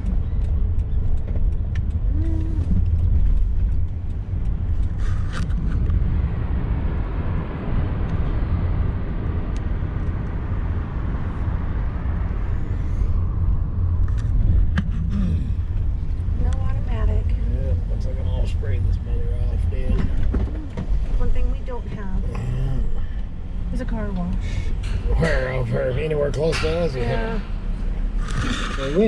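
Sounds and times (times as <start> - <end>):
road and engine rumble: 0.0 - 29.0.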